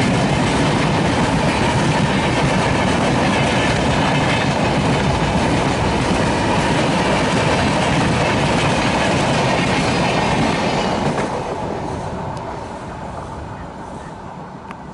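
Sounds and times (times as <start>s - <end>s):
train wheels rushing over rails: 0.0s - 14.5s.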